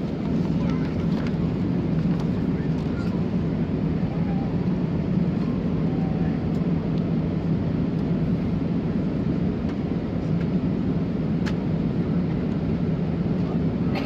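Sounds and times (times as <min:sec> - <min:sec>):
airliner cabin engine drone: 0:00.0 - 0:14.0.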